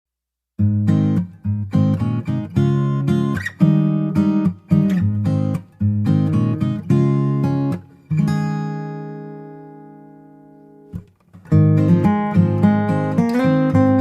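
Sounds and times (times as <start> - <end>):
acoustic guitar strumming: 0.6 - 14.0.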